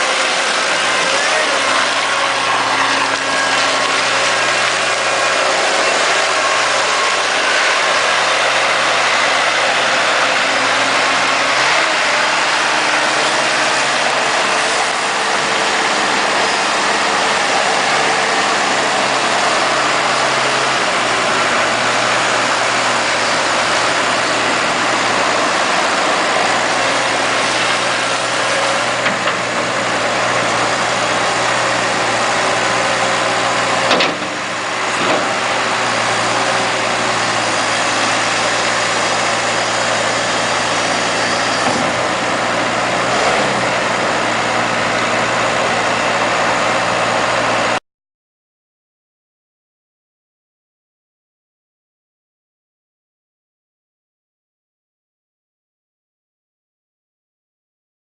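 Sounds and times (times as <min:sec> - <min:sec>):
diesel engine running: 0:00.0 - 0:47.8.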